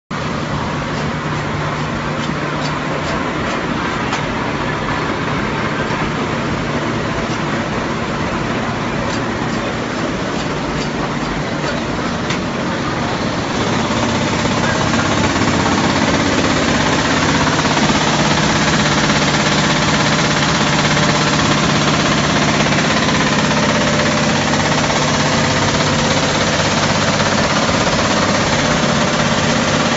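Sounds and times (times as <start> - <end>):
industrial plant machinery running: 0.1 - 29.9.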